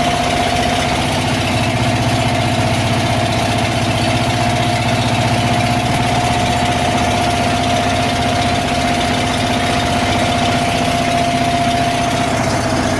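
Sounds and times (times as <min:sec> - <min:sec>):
boat engine running: 0:00.0 - 0:12.9.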